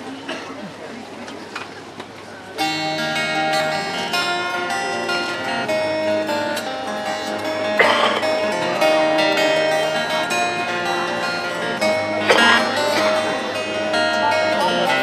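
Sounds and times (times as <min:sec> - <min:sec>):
acoustic guitar picking: 0:02.6 - 0:15.0.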